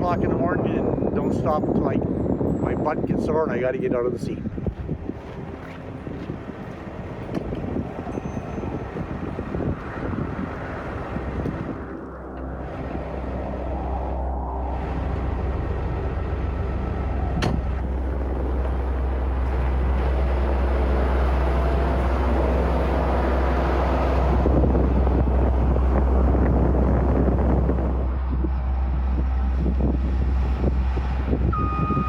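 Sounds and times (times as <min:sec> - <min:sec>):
heavy vehicle engine running: 0:04.4 - 0:32.0.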